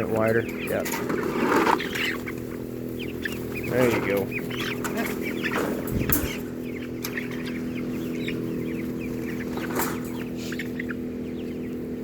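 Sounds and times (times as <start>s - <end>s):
chickens clucking and peeping: 0.0s - 12.0s
low mechanical hum: 0.0s - 12.0s.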